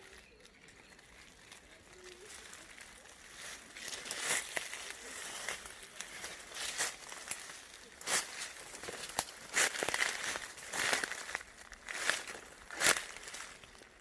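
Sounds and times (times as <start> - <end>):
leaves and twigs rustling: 0.0 - 14.0
twigs snapping: 0.0 - 14.0.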